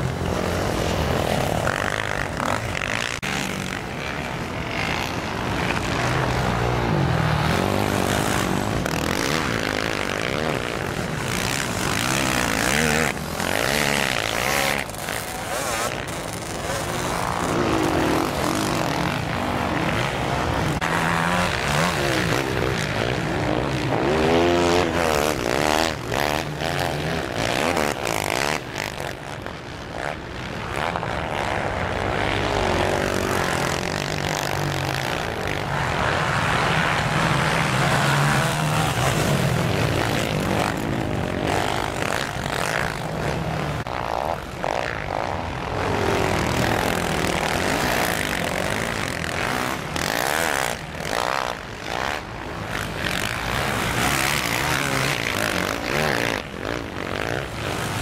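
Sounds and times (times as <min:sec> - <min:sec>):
quad engines revving: 0:00.0 - 0:58.0.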